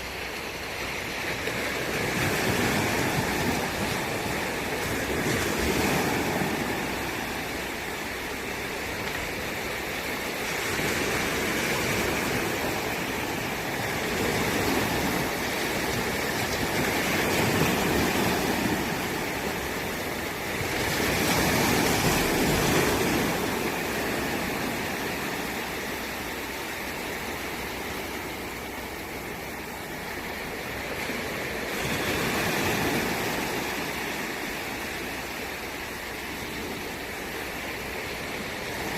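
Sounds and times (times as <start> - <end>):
waves washing in: 0.0 - 38.9.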